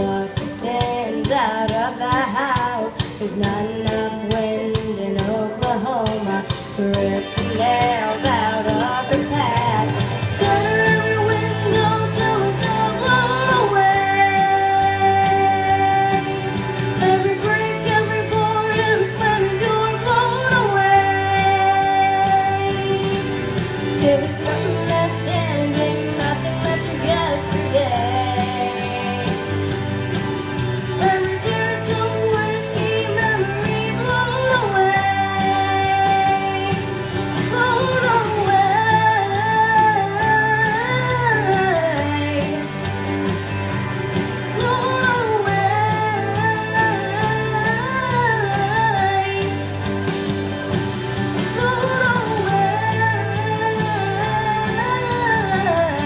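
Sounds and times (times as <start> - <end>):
girl singing: 0.0 - 23.3, 24.0 - 29.3, 31.0 - 36.8, 37.4 - 42.6, 44.6 - 49.6, 51.5 - 56.0
instrumental accompaniment with bass: 0.0 - 56.0.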